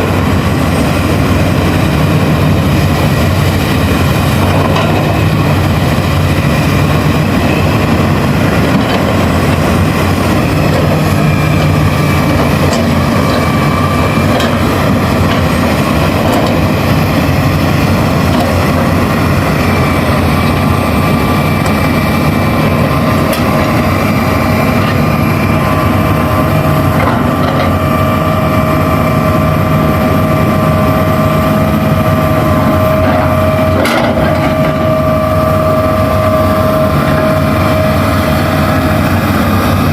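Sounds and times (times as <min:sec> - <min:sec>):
excavator diesel engines: 0:00.0 - 0:39.9
high whine: 0:00.0 - 0:39.9.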